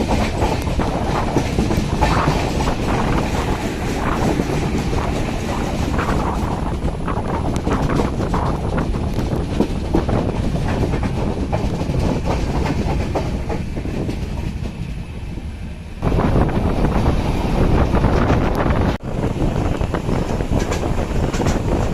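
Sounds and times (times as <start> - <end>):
wheels clacking over rail joints: 0.0 - 15.0, 16.1 - 21.9
train rumbling on track: 0.0 - 21.9.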